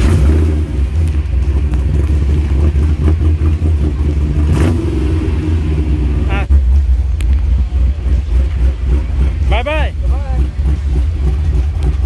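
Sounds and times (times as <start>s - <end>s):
car engine starting and idling: 0.0s - 12.0s.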